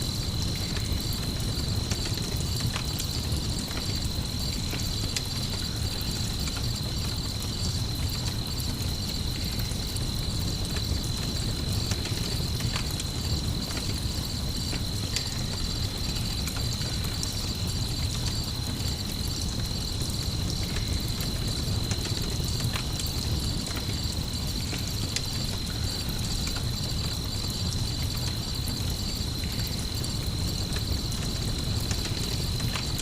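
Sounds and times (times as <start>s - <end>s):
campfire crackling: 0.0s - 33.0s
crickets chirping: 0.0s - 33.0s.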